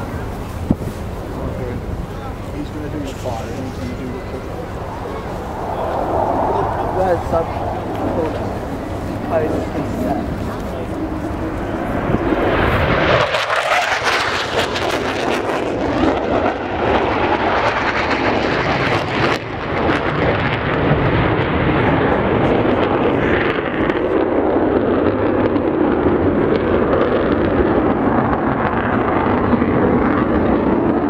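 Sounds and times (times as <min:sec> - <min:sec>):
jet engines roaring: 0:00.0 - 0:31.0
pyrotechnic blasts: 0:00.0 - 0:31.0.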